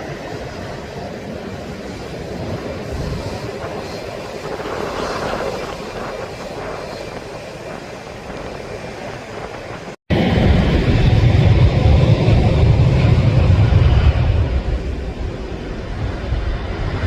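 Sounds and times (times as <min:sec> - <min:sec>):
jet airliner engines passing: 0:00.0 - 0:17.0.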